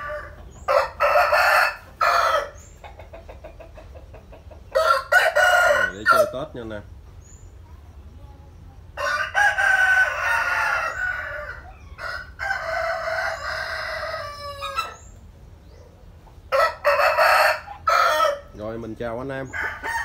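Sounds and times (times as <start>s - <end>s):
roosters crowing: 0.0s - 6.6s, 8.9s - 20.0s.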